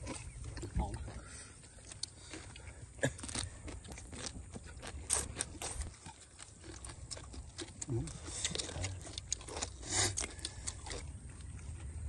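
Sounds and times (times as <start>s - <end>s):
chewing crunchy salad: 0.0s - 12.0s.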